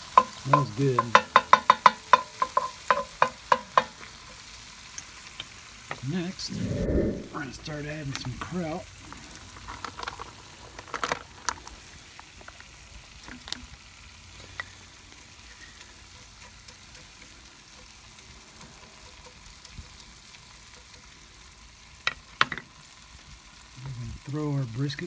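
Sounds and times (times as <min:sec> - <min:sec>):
vegetables sizzling in a pot: 0:00.0 - 0:06.6, 0:07.3 - 0:25.0.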